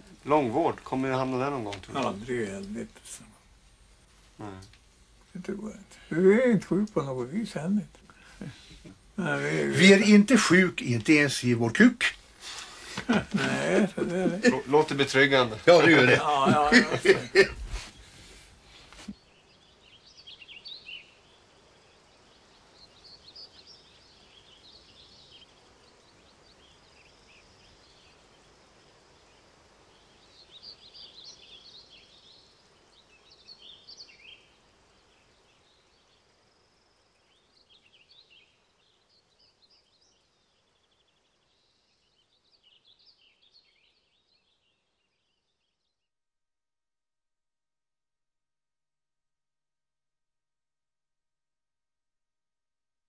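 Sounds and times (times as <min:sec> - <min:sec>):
small birds singing: 0:00.0 - 0:46.1.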